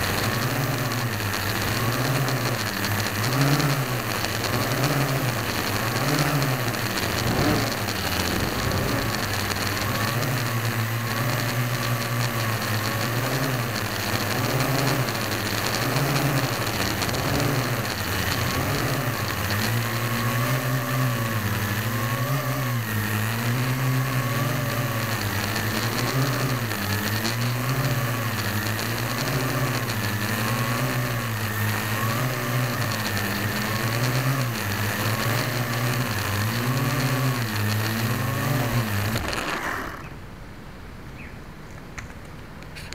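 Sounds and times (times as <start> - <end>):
quadcopter motors humming: 0.0 - 40.3.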